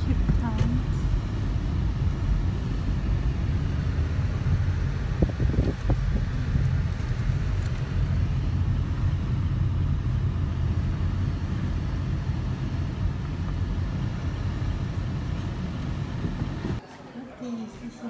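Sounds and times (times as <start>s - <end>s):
car engine and road noise: 0.0s - 16.8s.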